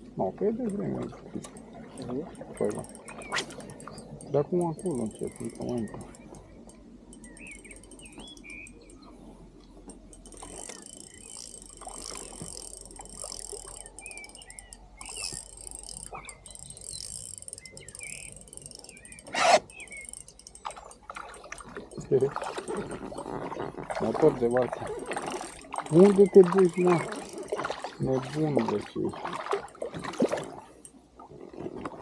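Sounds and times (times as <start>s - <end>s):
small birds chirping: 0.2s - 30.8s.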